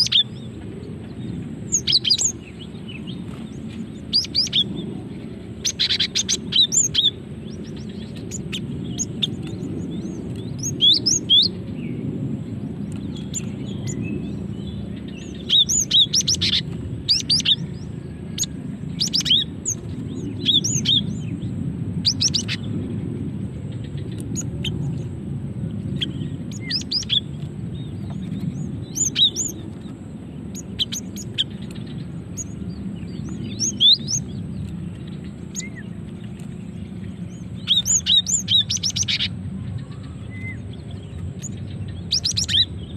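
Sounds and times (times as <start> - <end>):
bird chirping: 0.0 - 25.2, 25.8 - 42.9
steady low hum: 0.0 - 42.9.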